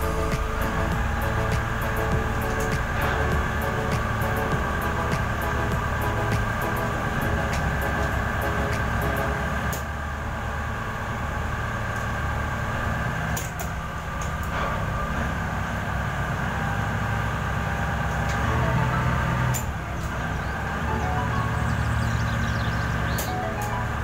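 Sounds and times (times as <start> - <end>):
boat engines droning: 0.0 - 24.0.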